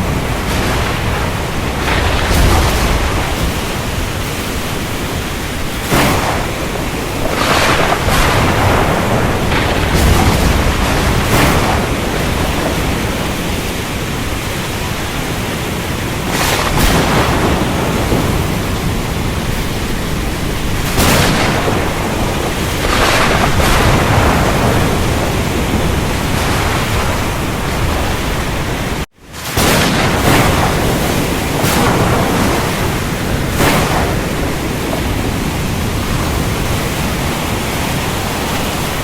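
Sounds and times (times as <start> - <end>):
steady rain: 0.0 - 39.0
thunder rumbling: 0.0 - 39.0.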